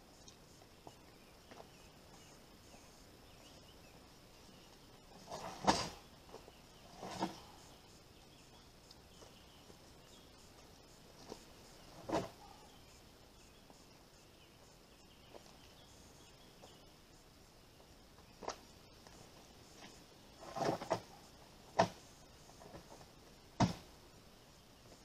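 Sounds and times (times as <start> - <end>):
high insect hum: 0.0 - 25.0.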